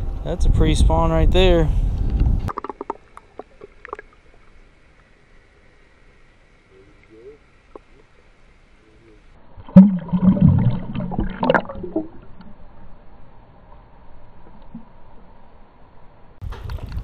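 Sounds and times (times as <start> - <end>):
faint steady whine: 0.0 - 9.8, 10.9 - 16.4.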